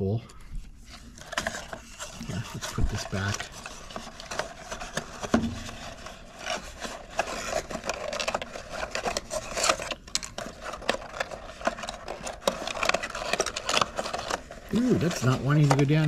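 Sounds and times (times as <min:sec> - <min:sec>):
cardboard insert scraping box: 0:00.9 - 0:16.0.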